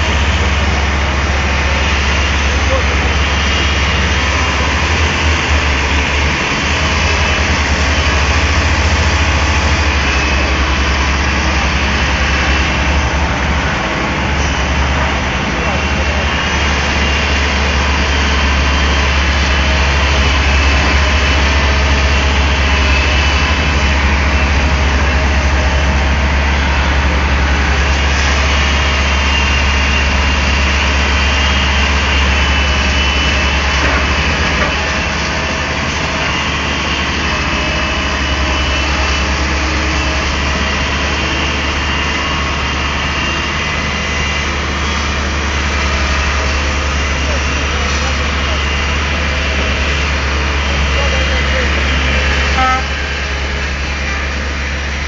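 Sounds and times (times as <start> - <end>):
excavator diesel engine humming: 0.0 - 55.0.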